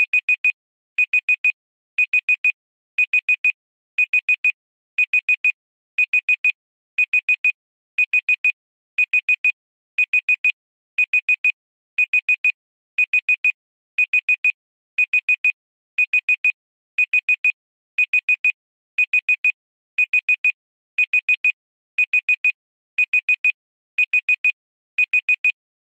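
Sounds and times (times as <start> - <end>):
digital timer alarm beeping: 0.1 - 25.6.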